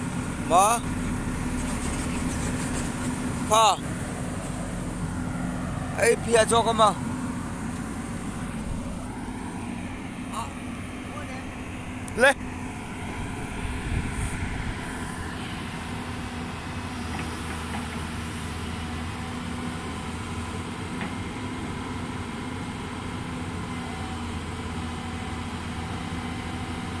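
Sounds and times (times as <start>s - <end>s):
diesel excavator engine running: 0.0s - 27.0s.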